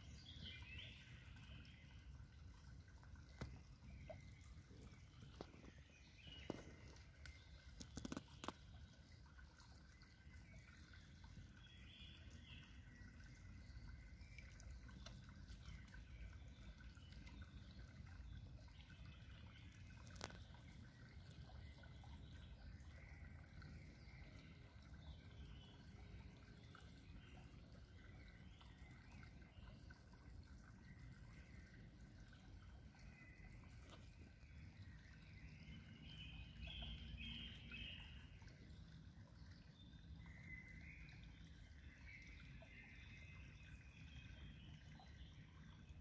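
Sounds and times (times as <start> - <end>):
soft clicks and water drips: 0.0 - 46.0.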